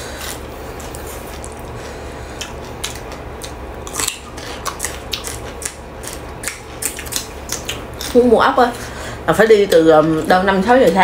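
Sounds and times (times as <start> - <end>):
crunching and chewing vegetables: 0.0 - 8.9
steady low hum: 0.0 - 11.0.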